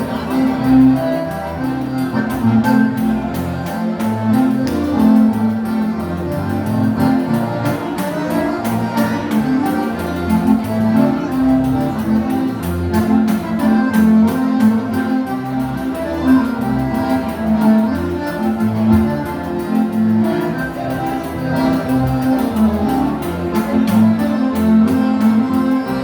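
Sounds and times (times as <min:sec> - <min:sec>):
accordion melody: 0:00.0 - 0:26.0.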